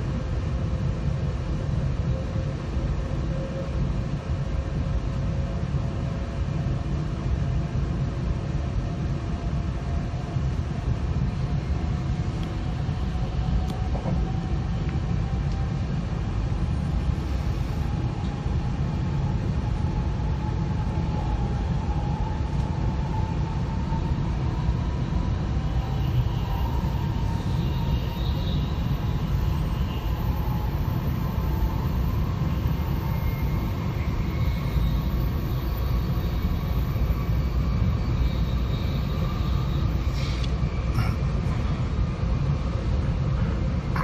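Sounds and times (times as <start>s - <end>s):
train rumble inside cabin: 0.0s - 44.0s.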